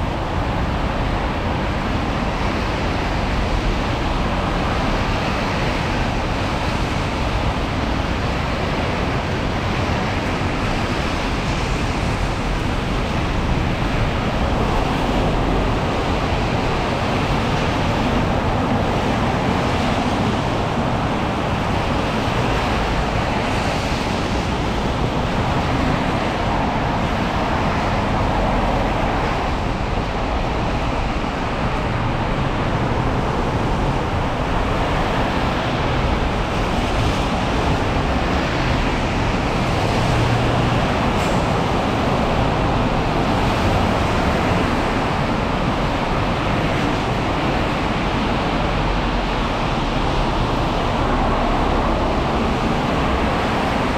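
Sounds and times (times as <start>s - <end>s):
rain: 0.0s - 53.9s
road traffic on wet streets: 0.0s - 53.9s.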